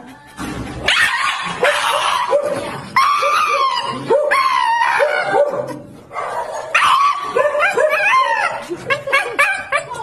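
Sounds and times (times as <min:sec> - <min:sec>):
dog screaming cries: 0:00.9 - 0:05.5, 0:06.5 - 0:10.0.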